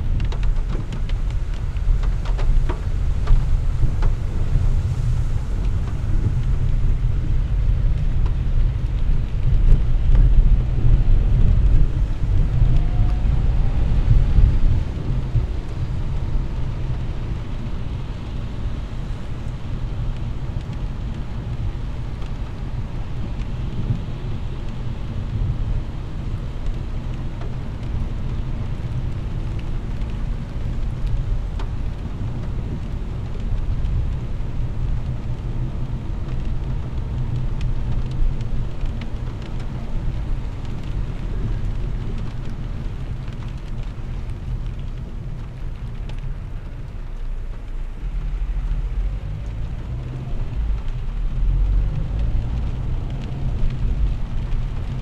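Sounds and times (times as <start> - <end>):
rain and spray hiss: 0.0 - 55.0
tyres rumbling on wet road: 0.0 - 55.0.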